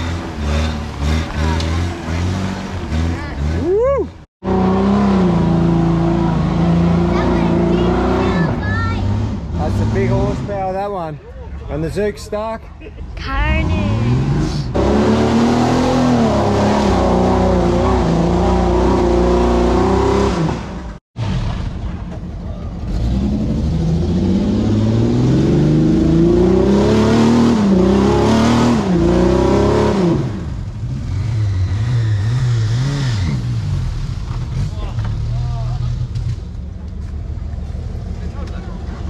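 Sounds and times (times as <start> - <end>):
off-road engine revving: 0.0 - 11.0, 13.2 - 39.0.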